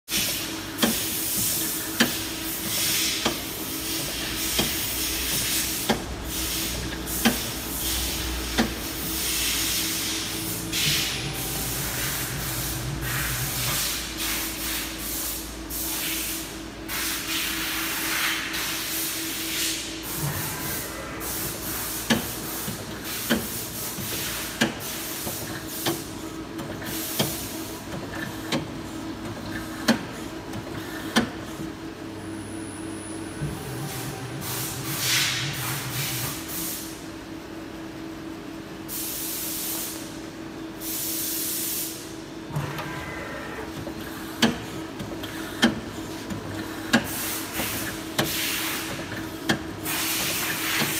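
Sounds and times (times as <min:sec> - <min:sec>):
lathe machine hum: 0:00.1 - 0:15.8, 0:17.8 - 0:36.8, 0:42.3 - 0:50.9.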